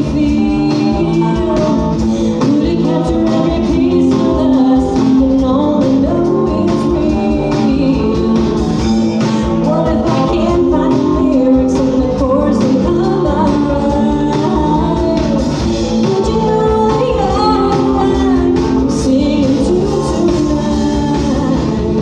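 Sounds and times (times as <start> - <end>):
rock band playing: 0.0 - 22.0
steady drum beat: 0.0 - 22.0
woman singing lead: 0.0 - 22.0.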